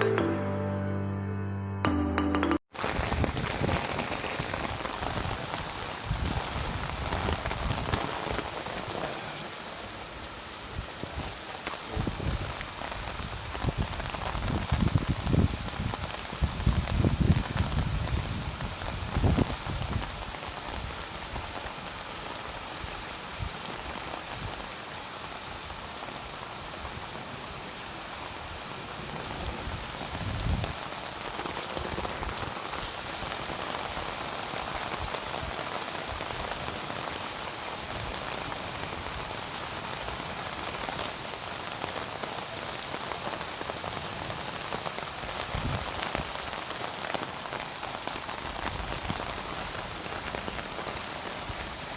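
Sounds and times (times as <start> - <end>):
steady rain hiss: 2.8 - 51.9.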